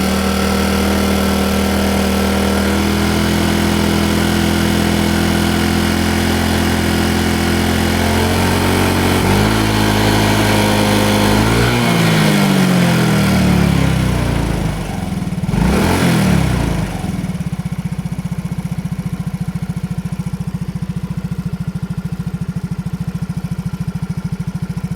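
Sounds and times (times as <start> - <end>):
scooter engine revving and idling: 0.0 - 24.9.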